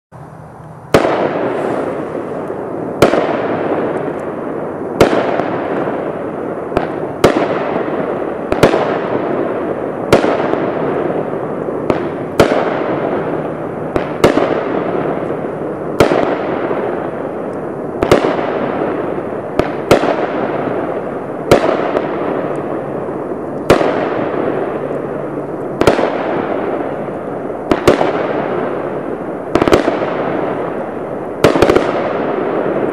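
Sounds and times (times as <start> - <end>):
firework sizzle: 0.2 - 32.9
firework shots banging: 0.8 - 32.9.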